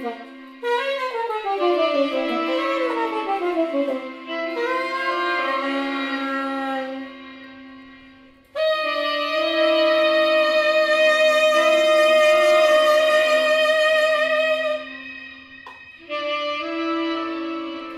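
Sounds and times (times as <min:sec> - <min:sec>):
loud sustained tone: 0:00.0 - 0:17.9
saxophone sliding pitches: 0:00.0 - 0:17.9.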